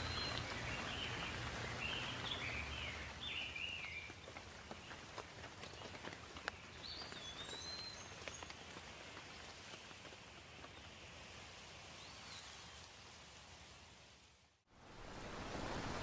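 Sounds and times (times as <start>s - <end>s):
faint rain drops falling: 0.0s - 16.0s.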